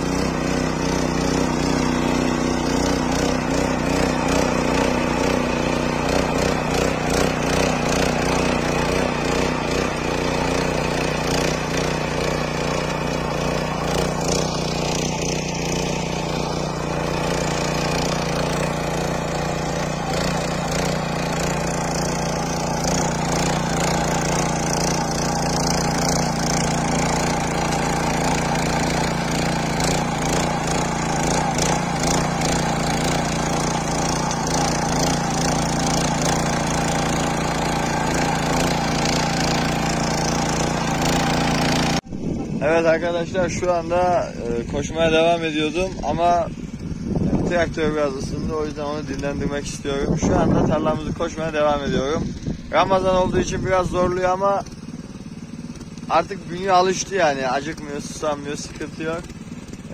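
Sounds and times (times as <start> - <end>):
rotary tiller engine running: 0.0 - 59.9.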